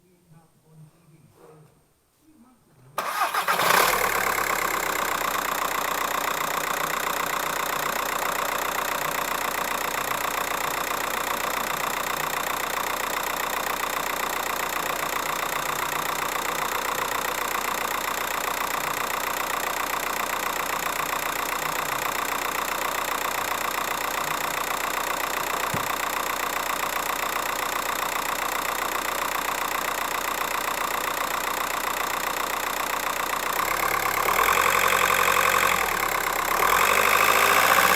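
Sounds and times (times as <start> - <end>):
diesel engine idling: 3.0 - 37.9.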